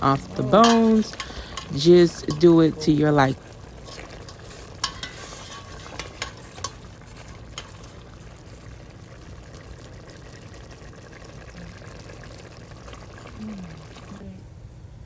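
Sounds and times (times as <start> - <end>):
food sizzling in a pot: 0.0 - 14.3.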